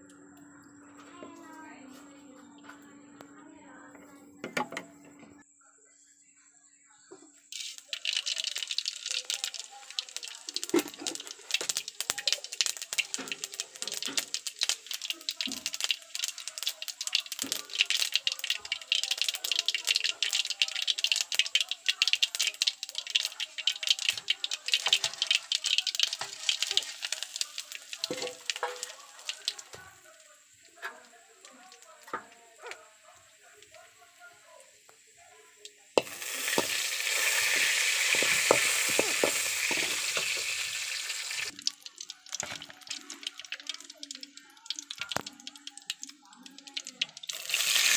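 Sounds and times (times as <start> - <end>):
seeds crackling in hot oil: 7.5 - 47.9.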